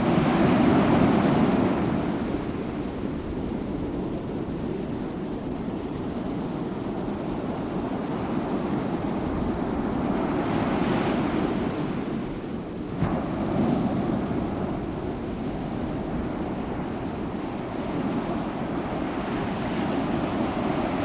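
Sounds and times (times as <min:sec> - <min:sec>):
sea waves washing on shore: 0:00.0 - 0:21.0
wind buffeting microphone: 0:00.0 - 0:21.0.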